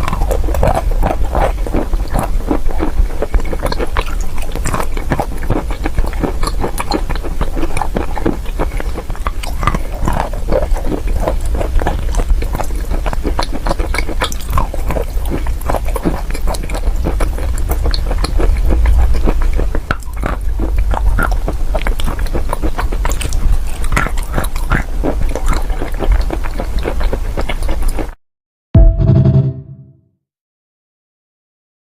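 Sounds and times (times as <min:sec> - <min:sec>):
chewing and crunching chalk: 0:00.0 - 0:28.2.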